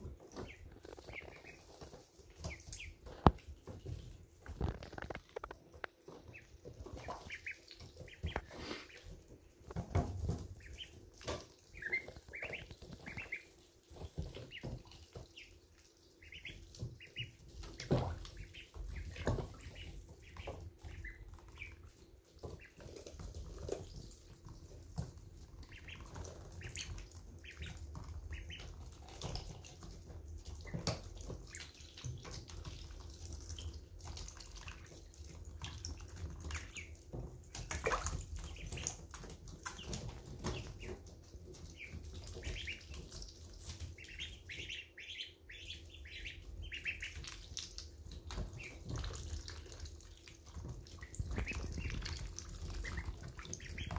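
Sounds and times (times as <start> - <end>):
ducklings peeping: 0.0 - 53.9.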